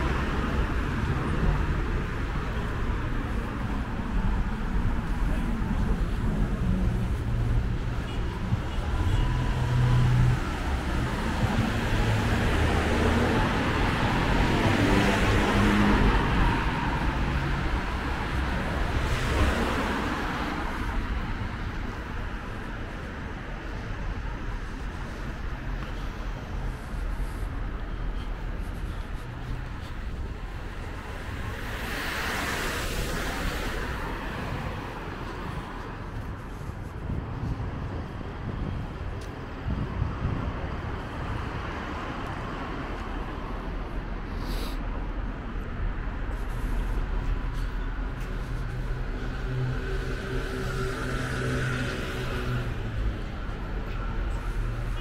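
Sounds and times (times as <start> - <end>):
cars driving past: 0.0 - 55.0
low rumble of traffic: 0.0 - 55.0.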